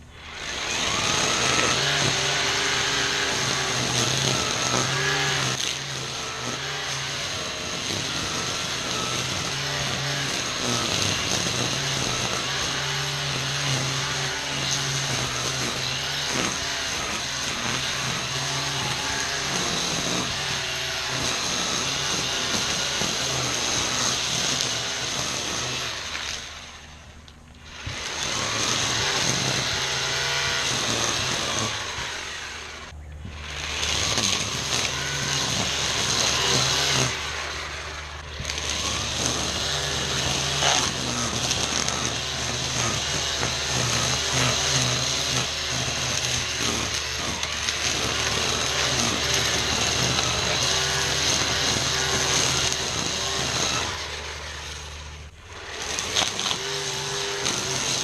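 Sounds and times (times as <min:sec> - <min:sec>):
string trimmer cutting weeds: 0:00.0 - 0:58.0.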